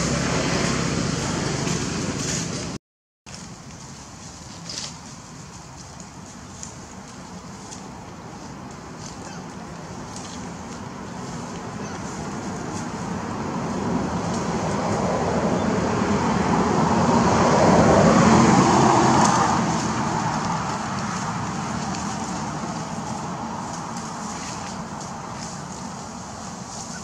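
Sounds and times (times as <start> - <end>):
vehicle passing by: 0.0 - 2.8, 6.6 - 27.0.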